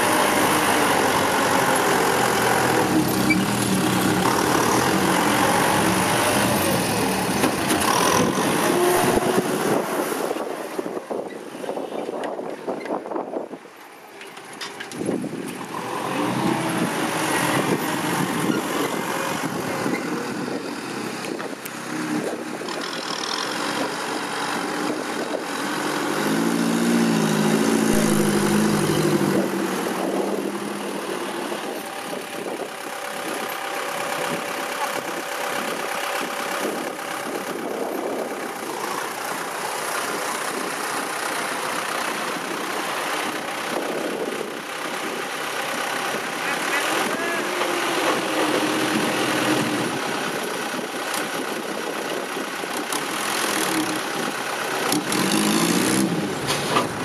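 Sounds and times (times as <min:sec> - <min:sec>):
dump truck diesel engine: 0:00.0 - 0:57.0
tractor diesel engine: 0:00.0 - 0:57.0.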